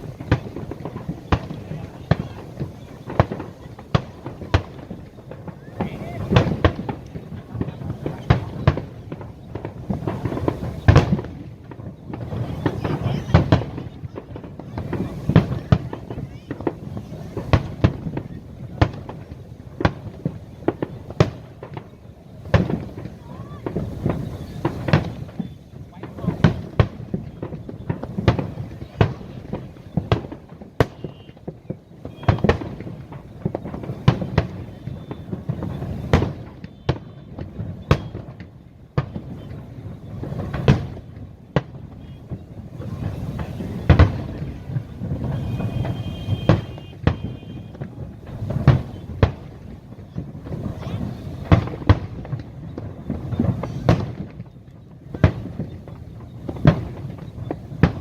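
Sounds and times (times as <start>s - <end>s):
sharp firework bangs: 0.0s - 58.0s.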